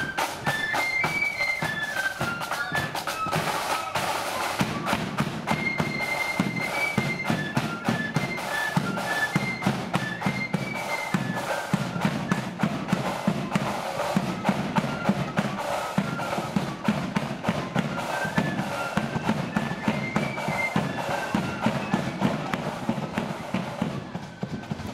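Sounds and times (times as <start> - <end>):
flutes playing melody: 0.0 - 24.9
rapid drum beats: 0.0 - 24.9.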